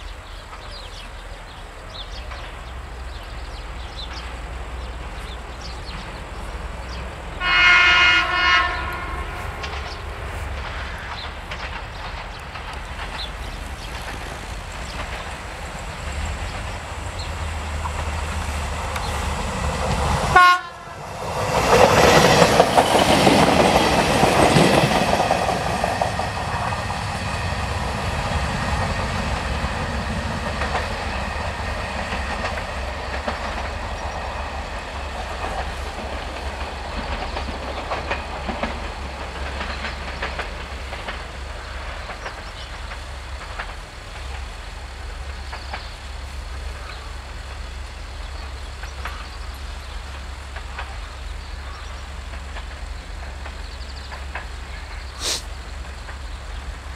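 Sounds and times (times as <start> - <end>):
railcar engine: 0.0 - 56.9
wheels clattering over rail joints: 9.5 - 20.2, 21.5 - 56.9.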